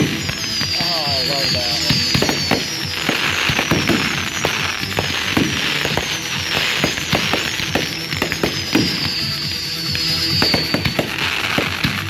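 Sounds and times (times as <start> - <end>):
fireworks bursts and crackling: 0.0 - 12.0
fireworks whistling: 0.0 - 12.0.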